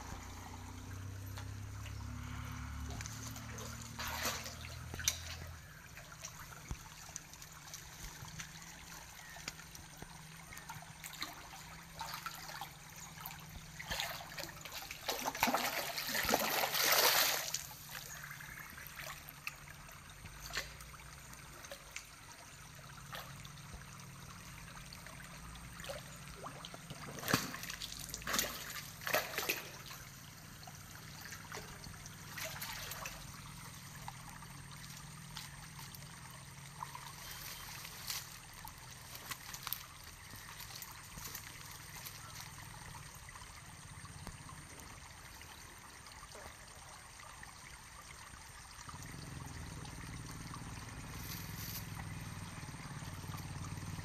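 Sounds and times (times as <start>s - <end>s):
fish splashing in water: 0.0s - 45.0s
water trickling: 0.0s - 54.0s.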